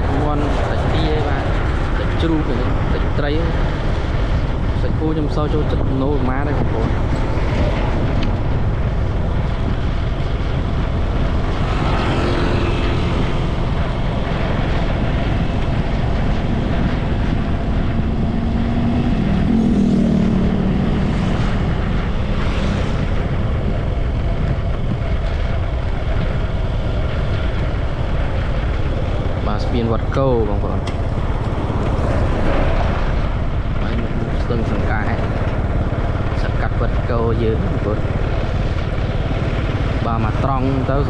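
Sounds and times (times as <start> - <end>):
vehicle rumble: 0.0 - 41.0.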